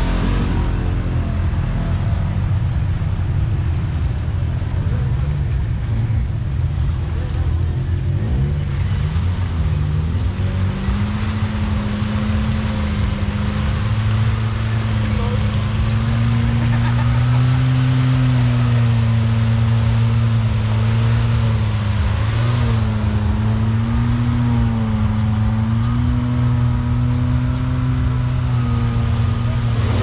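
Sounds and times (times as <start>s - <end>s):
utility vehicle engine running: 0.0s - 30.0s.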